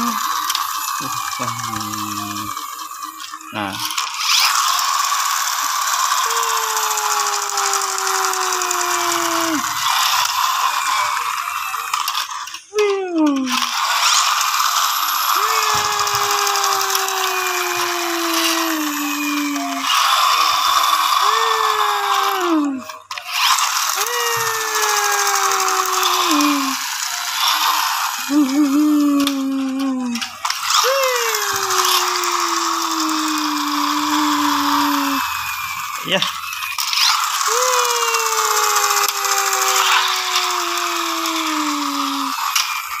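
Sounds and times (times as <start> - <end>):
toy flywheel whirring and grinding: 0.0 - 43.0.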